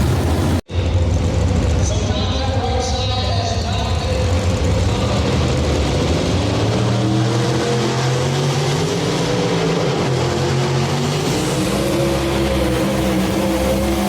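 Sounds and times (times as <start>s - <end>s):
truck engine at high revs: 0.0s - 2.2s, 3.6s - 14.0s.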